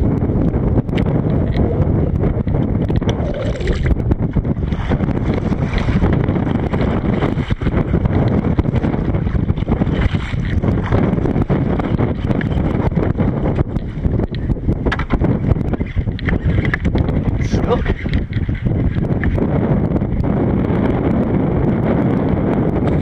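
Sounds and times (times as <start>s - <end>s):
choppy water: 0.0s - 23.0s
wind buffeting microphone: 0.0s - 23.0s.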